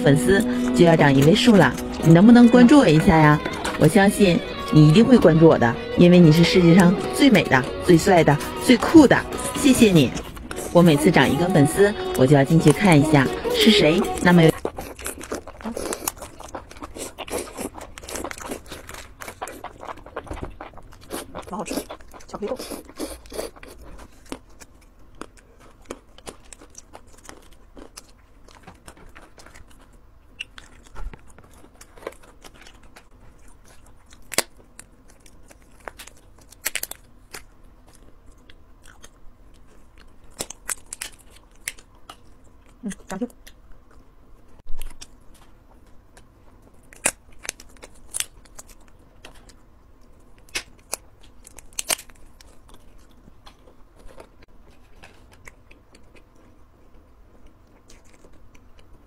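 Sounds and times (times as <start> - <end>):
chewing and biting: 9.2 - 10.8, 12.7 - 59.0.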